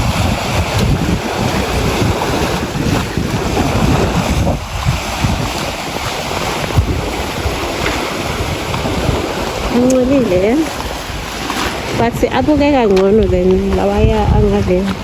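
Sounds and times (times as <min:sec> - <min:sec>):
sea waves washing ashore: 0:00.0 - 0:15.0
wind buffeting microphone: 0:00.0 - 0:15.0.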